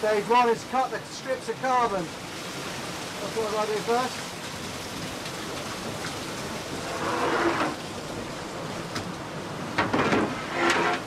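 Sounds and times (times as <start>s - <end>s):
water rushing against hull: 0.0s - 11.0s.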